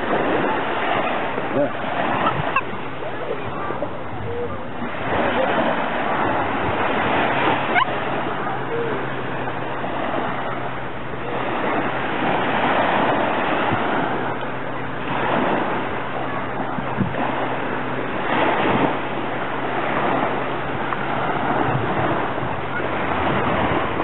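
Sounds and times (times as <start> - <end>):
small waves breaking on shore: 0.0 - 24.0.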